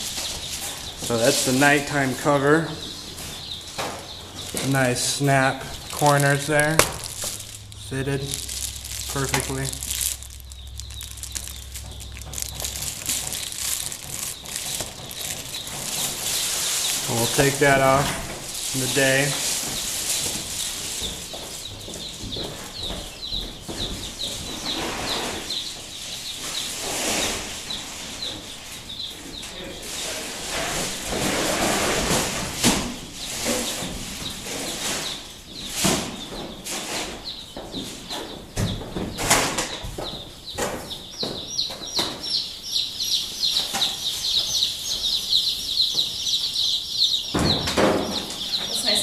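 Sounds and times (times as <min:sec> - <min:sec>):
chicks peeping: 0:00.0 - 0:49.0.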